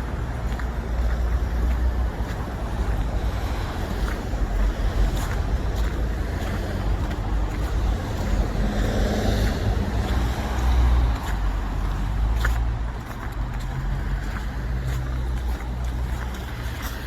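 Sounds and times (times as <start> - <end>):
city street traffic rumble: 0.0 - 17.0
footsteps crunching in snow: 0.0 - 17.0
vehicle passing: 0.0 - 17.0.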